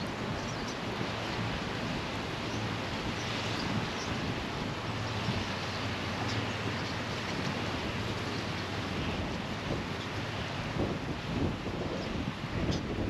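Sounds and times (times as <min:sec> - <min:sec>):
sea surf: 0:00.0 - 0:13.0
wind rumbling on microphone: 0:00.0 - 0:13.0.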